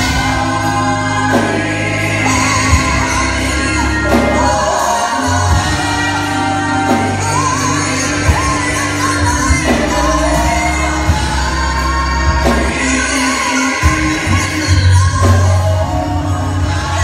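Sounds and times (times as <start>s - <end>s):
backing singers: 0.0s - 17.0s
organ and band: 0.0s - 17.0s
woman singing lead: 0.0s - 17.0s.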